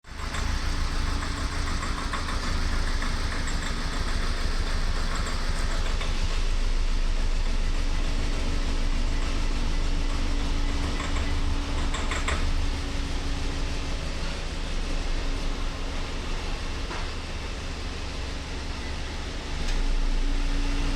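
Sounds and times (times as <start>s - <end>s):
car engine droning: 0.0s - 20.9s.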